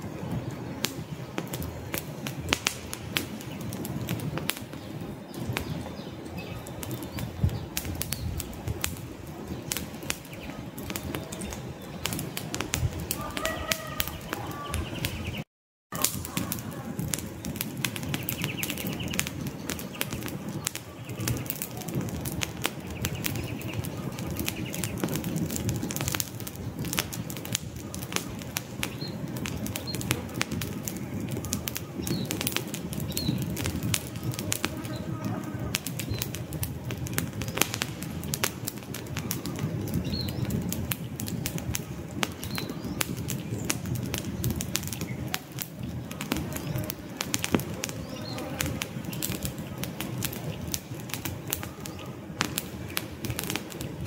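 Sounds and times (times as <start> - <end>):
low rush of flame: 0.0 - 15.4, 16.0 - 54.0
campfire crackling and popping: 0.0 - 54.0.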